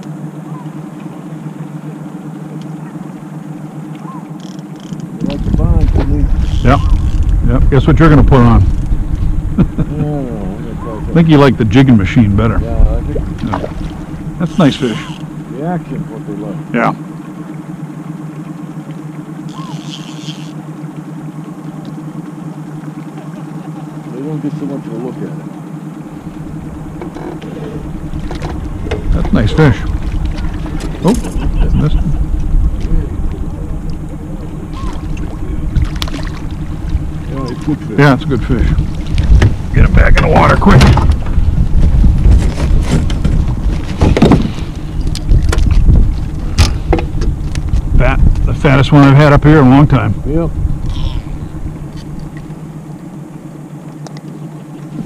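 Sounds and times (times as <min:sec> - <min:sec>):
outboard motor humming: 0:00.0 - 0:55.0.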